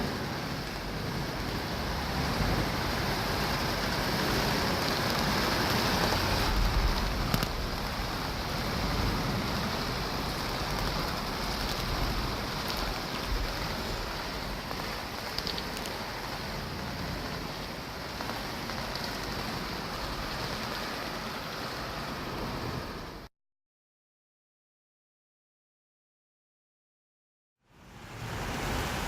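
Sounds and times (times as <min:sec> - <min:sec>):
heavy rain: 0:00.0 - 0:23.3, 0:27.7 - 0:29.0
thunder rumbling: 0:00.0 - 0:23.3.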